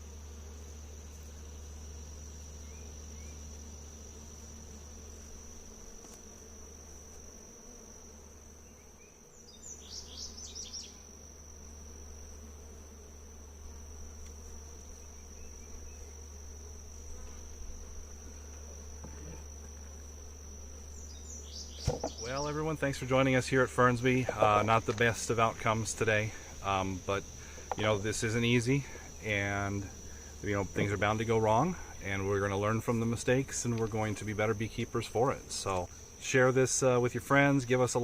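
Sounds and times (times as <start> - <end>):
honeybees buzzing: 0.0 - 38.0
insects droning: 0.0 - 38.0.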